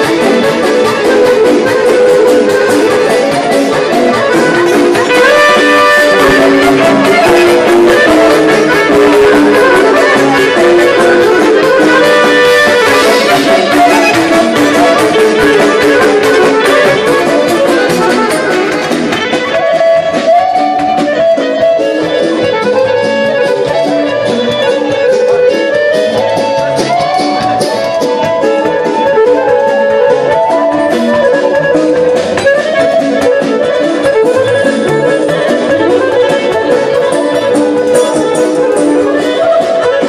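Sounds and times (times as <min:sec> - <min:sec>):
accordion: 0:00.0 - 0:40.0
drums: 0:00.0 - 0:40.0
keyboard: 0:00.0 - 0:40.0
violin: 0:00.0 - 0:40.0.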